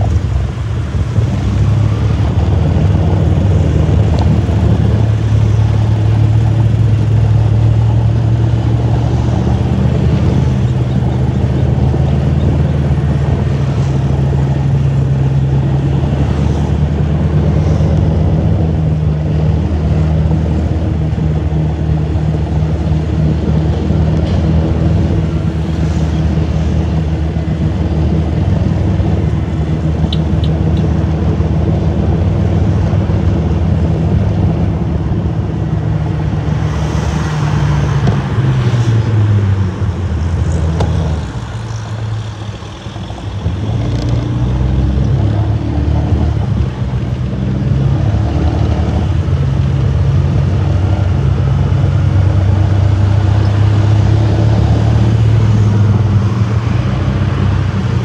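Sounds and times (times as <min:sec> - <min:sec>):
car engine hum: 0:00.0 - 0:58.0
road noise: 0:00.0 - 0:58.0.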